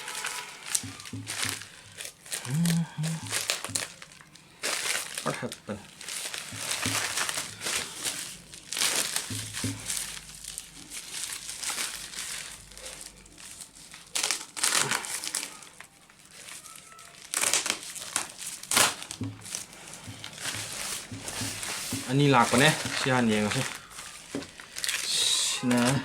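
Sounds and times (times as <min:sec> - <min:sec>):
packaging crinkling: 0:00.0 - 0:26.0.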